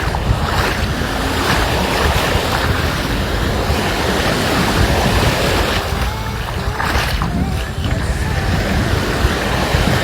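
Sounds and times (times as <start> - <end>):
sea waves washing onto beach: 0.0 - 10.0
wind buffeting microphone: 0.0 - 10.0.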